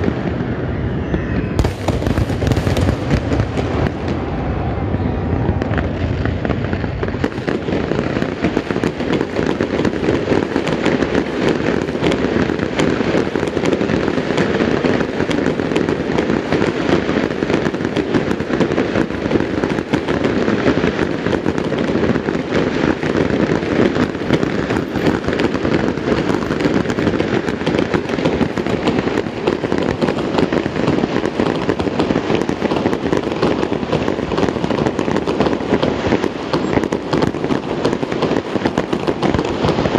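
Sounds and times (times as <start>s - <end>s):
fireworks bursts and crackle: 0.0s - 39.9s.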